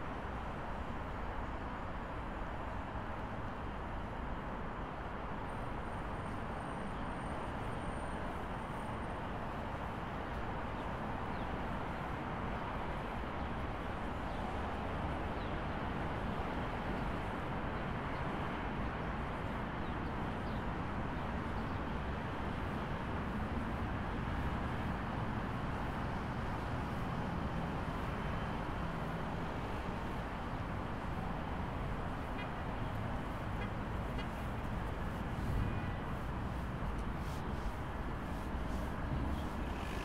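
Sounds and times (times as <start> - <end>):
city traffic hum: 0.0 - 40.0.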